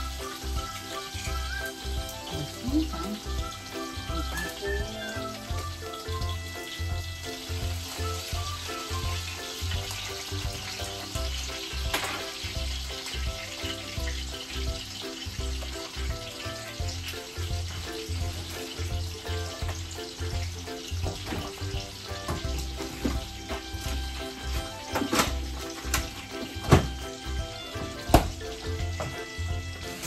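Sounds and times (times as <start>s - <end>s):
steak sizzling in a pan: 0.0s - 30.0s.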